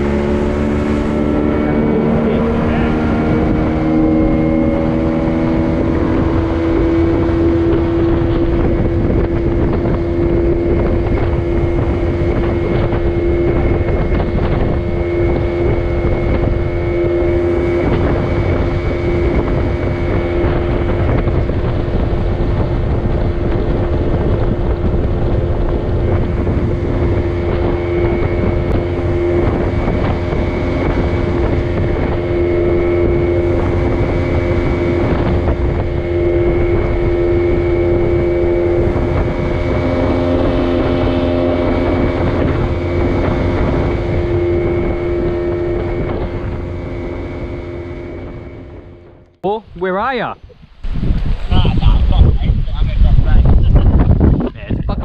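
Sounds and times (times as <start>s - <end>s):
outboard motor running: 0.0s - 52.1s
wind buffeting microphone: 0.0s - 55.0s.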